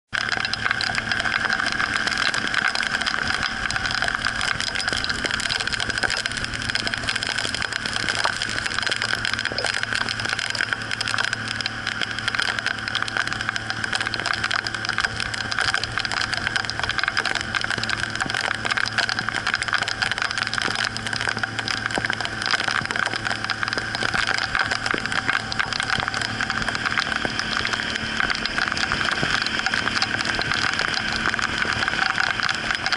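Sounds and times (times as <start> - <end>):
outboard motor running: 0.1 - 32.9
rain and spray striking boat: 0.1 - 32.9.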